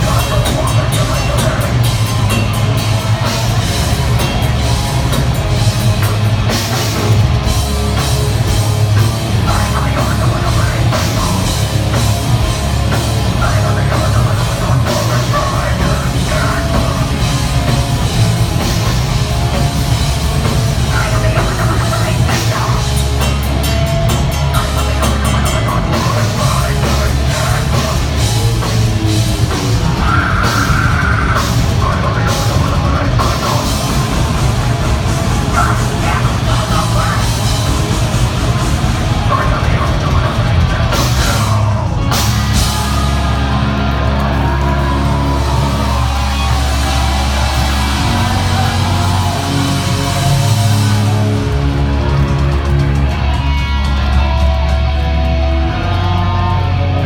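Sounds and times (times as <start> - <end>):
heavy metal band playing live: 0.0 - 57.0
pounding drum kit: 0.0 - 57.0.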